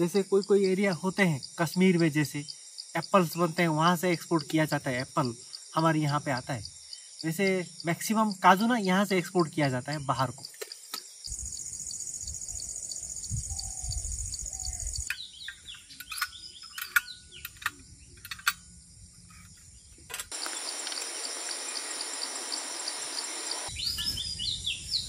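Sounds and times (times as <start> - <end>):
steady hiss: 0.0 - 13.2, 16.8 - 23.9
small birds chirping: 0.0 - 18.3, 19.4 - 25.0
insects trilling: 0.0 - 25.0.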